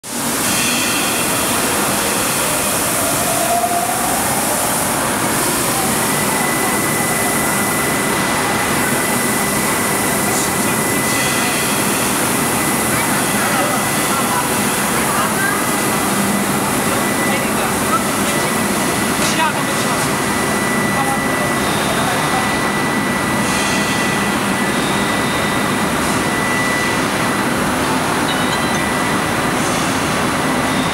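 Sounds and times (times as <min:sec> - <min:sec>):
thin high whine: 0:03.5 - 0:30.9.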